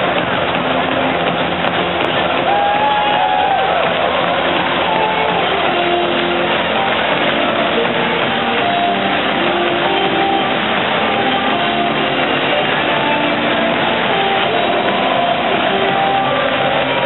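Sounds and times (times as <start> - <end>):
crowd hubbub: 0.0 - 17.0
rock music over loudspeakers: 0.0 - 17.0.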